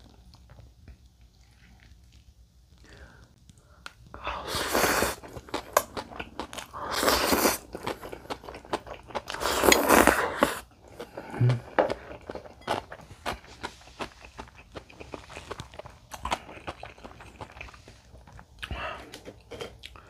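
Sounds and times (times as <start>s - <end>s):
wet chewing with mouth clicks: 0.0s - 20.0s.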